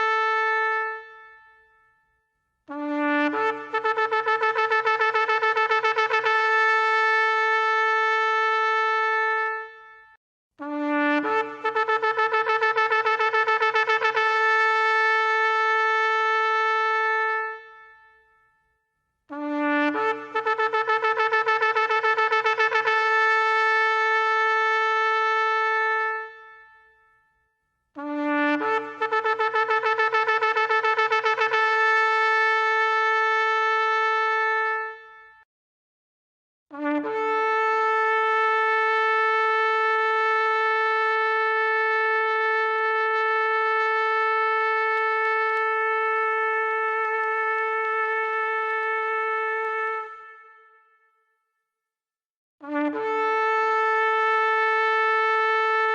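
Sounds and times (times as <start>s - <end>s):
shofar blasts: 2.7s - 18.4s, 19.3s - 27.2s, 28.0s - 35.4s, 36.7s - 40.8s, 42.2s - 51.1s, 52.6s - 55.9s.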